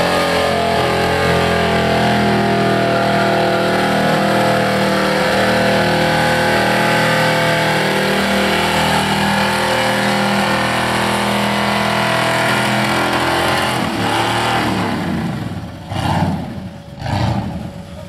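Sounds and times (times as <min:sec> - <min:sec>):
engine revving at high revs: 0:00.0 - 0:17.8.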